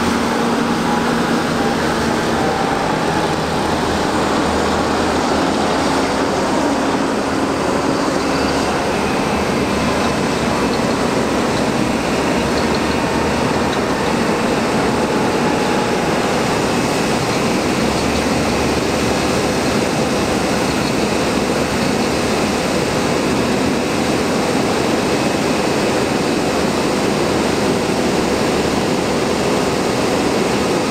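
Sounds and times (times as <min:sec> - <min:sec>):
diesel engines droning: 0:00.0 - 0:30.9
dump trucks driving by: 0:00.0 - 0:30.9.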